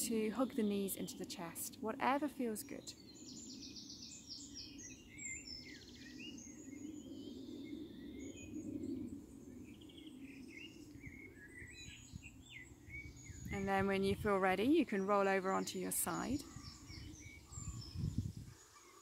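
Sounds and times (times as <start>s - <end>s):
songbirds singing and chirping: 0.0s - 19.0s.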